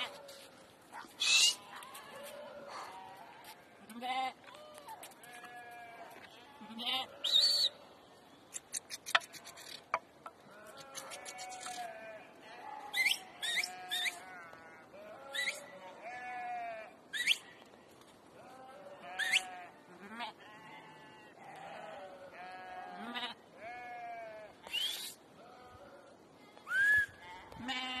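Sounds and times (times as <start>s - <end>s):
sheep and goats bleating: 0.0s - 7.8s, 10.4s - 28.0s.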